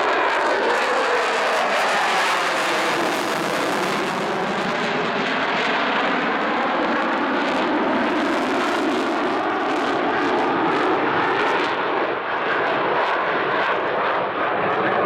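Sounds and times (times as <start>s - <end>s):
jet engines roaring with afterburners: 0.0s - 15.0s.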